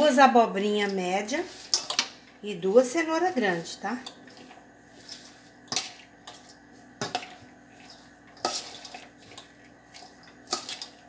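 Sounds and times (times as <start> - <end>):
metal spoon scraping steel bowl: 0.8 - 2.1, 3.1 - 11.0.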